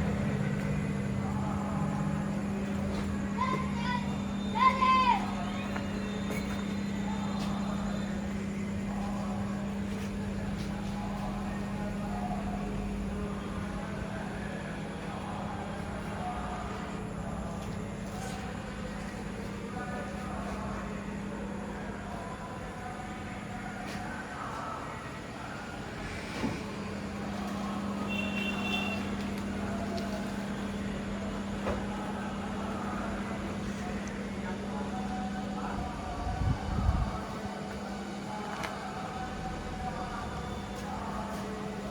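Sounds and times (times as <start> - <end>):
rice mill machinery droning: 0.0 - 41.9.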